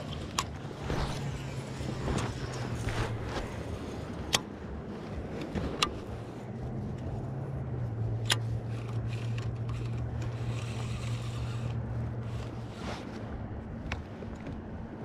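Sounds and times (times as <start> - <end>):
electric trolling motor humming: 0.0 - 15.0.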